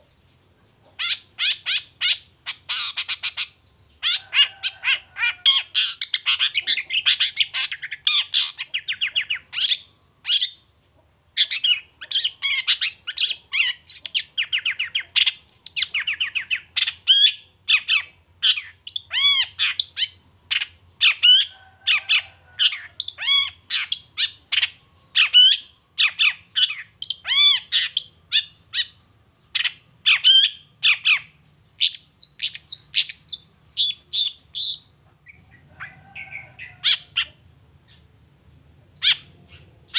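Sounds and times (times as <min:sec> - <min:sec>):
bird singing chattering and whistling: 0:00.8 - 0:10.6, 0:11.3 - 0:38.1, 0:38.9 - 0:39.9.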